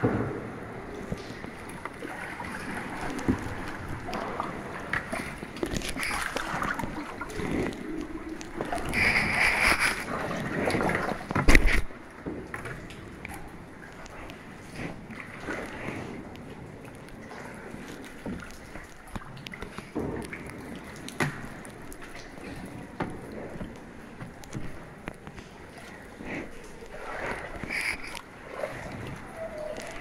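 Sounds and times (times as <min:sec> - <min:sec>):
kayak paddle strokes: 0:00.0 - 0:30.0
water sloshing around kayak: 0:00.0 - 0:30.0
water drips: 0:00.8 - 0:30.0.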